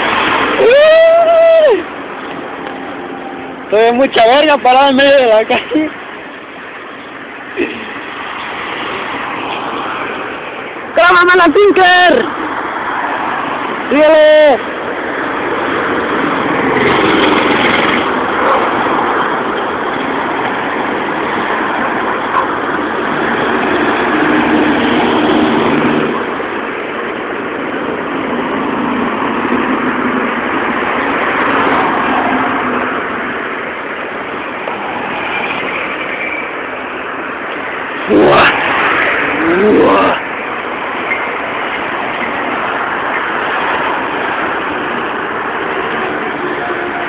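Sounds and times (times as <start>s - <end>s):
taxi road and engine noise: 0.0s - 47.0s.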